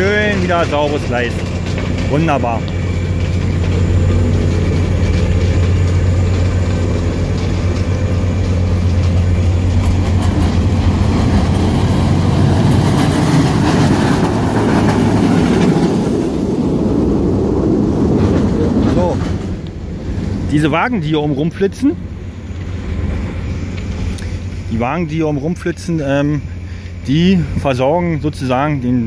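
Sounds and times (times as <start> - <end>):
low machine hum: 0.0 - 29.0
rumble and clatter of rail machinery: 0.0 - 29.0.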